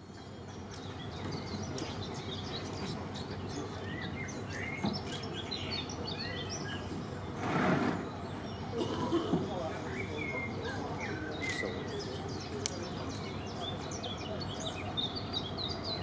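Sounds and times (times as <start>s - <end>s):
small birds chirping: 0.0s - 8.8s, 9.4s - 16.0s.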